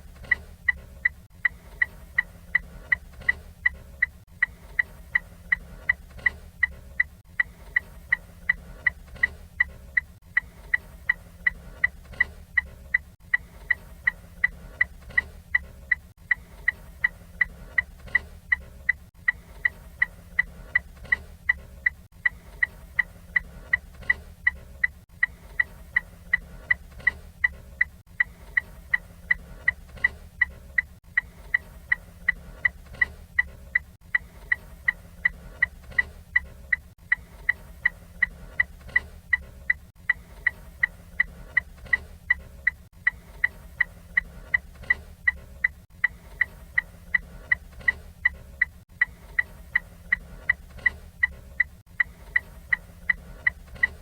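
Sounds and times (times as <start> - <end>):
turn signal ticking: 0.0 - 54.0.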